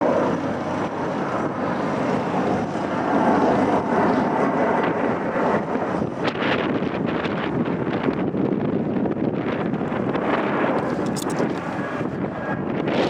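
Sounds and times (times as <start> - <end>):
jet engines in flight: 0.0 - 13.0
wind buffeting microphone: 0.0 - 13.0.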